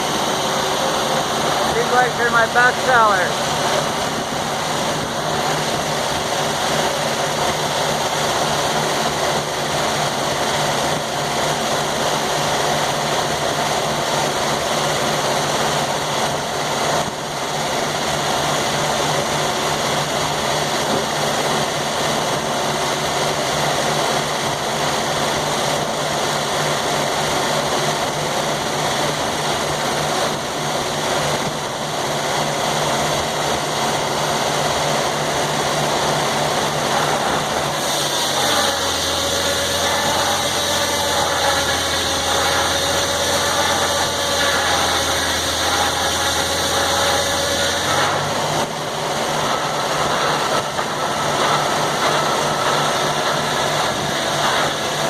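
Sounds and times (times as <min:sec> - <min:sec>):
sawmill engine running steadily: 0:00.0 - 0:55.0.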